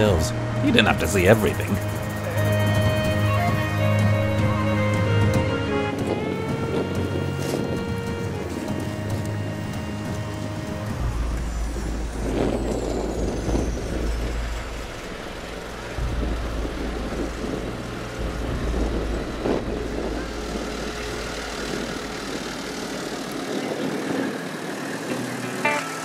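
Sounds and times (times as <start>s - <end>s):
wind on microphone: 0.0s - 25.4s
minibus engine idling: 0.0s - 26.0s.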